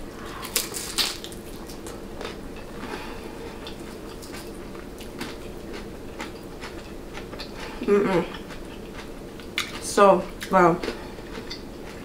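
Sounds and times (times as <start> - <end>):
chewing crisp food: 0.2 - 12.0.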